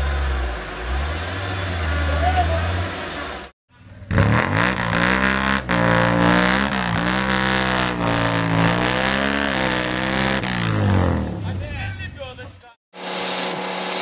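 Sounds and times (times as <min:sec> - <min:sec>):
engine revving hard under load: 0:00.0 - 0:11.7.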